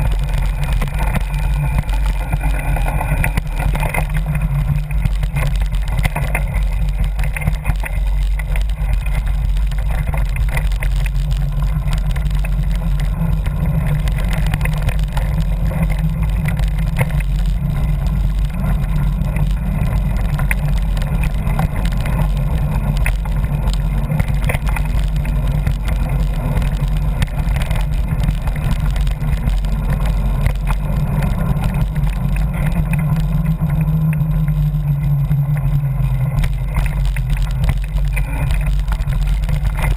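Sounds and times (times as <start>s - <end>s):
bike rattling and knocking: 0.0s - 39.9s
wind rumbling on microphone: 0.0s - 39.9s.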